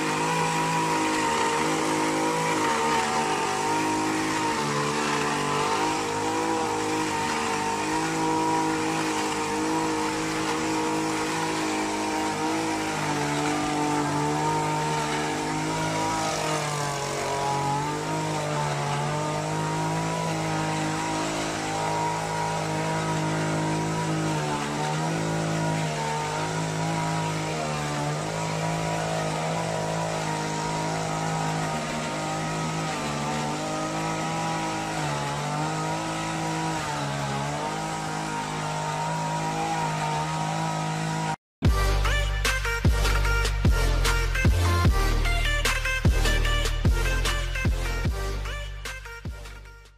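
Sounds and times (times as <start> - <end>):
hedge trimmer engine revving: 0.0 - 49.6.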